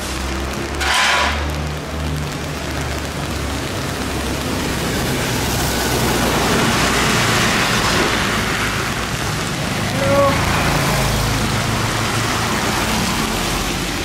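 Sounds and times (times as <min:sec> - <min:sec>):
rain on a wet street: 0:00.0 - 0:14.0
tyres on wet road: 0:00.0 - 0:14.0.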